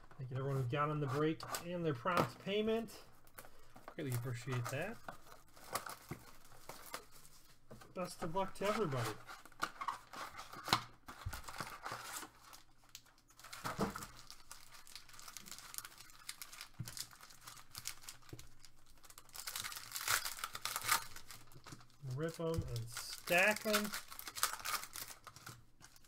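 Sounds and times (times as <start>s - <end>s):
foil packs crinkling and tearing: 3.4s - 7.4s, 8.3s - 26.0s.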